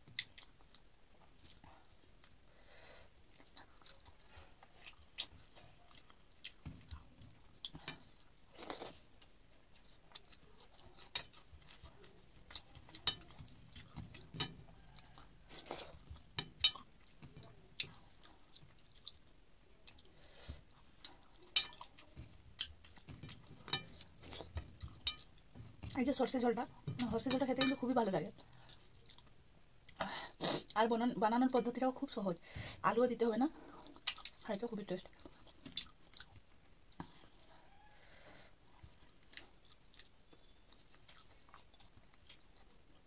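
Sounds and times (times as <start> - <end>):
person chewing food: 0.0 - 26.0, 28.3 - 30.8, 33.6 - 43.0.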